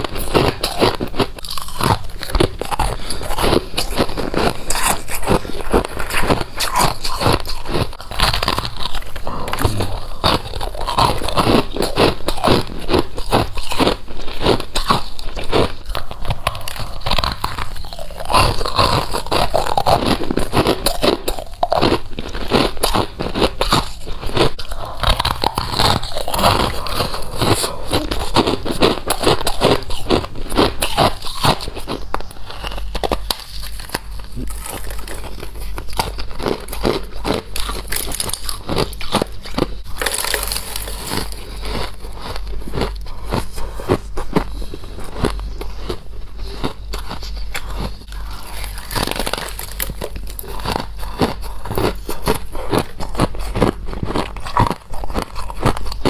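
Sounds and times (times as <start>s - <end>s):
crunching of chewed frost: 0.0s - 56.0s.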